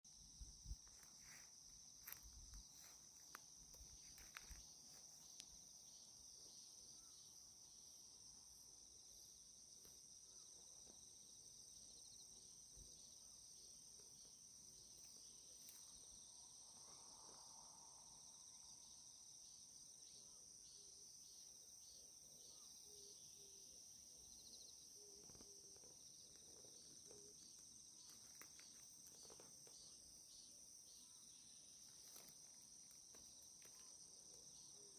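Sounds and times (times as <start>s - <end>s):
insects chirring: 0.1s - 34.9s.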